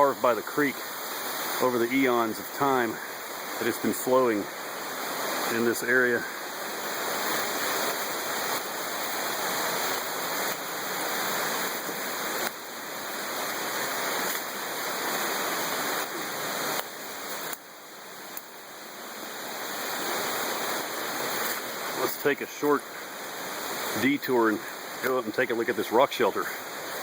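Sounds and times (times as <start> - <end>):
rushing waterfall water: 0.0 - 27.0.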